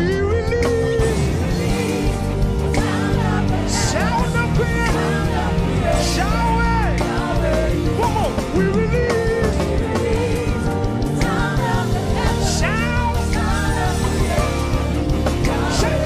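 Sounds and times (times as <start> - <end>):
band playing worship music: 0.0 - 16.0
voices singing: 0.6 - 16.0.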